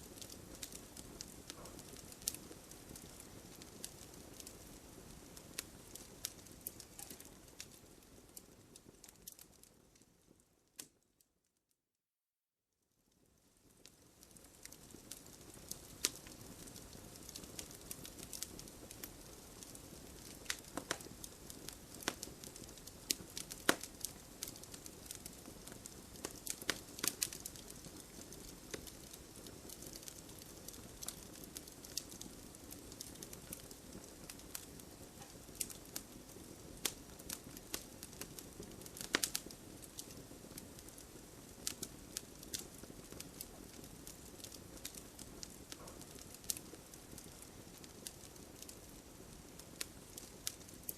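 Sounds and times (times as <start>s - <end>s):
campfire flames rushing: 0.0s - 9.5s, 13.7s - 50.9s
wood crackling and popping: 0.0s - 11.0s, 13.2s - 50.9s.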